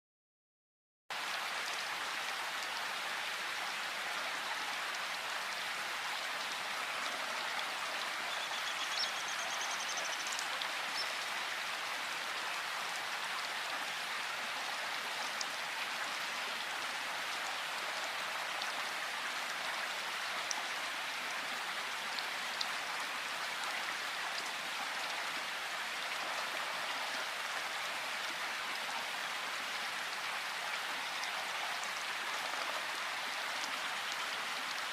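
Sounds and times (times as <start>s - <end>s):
steady rain in a forest: 1.1s - 34.9s.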